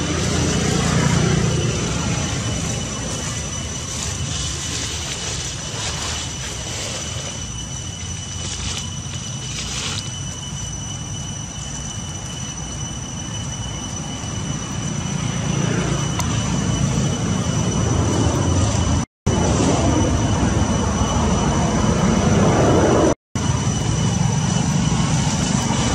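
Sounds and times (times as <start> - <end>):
high-pitched whine: 0.0 - 25.9.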